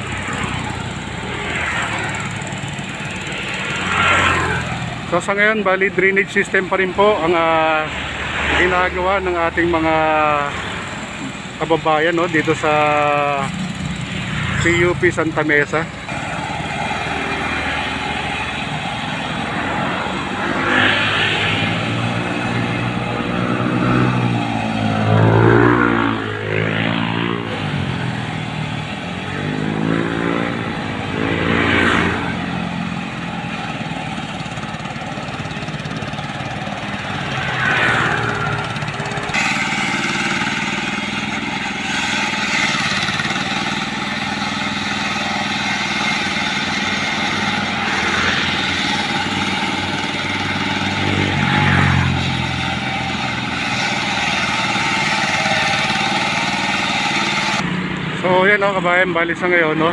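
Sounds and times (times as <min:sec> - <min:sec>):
steady traffic hum: 0:00.0 - 0:59.9
vehicle engines passing: 0:00.0 - 0:59.9.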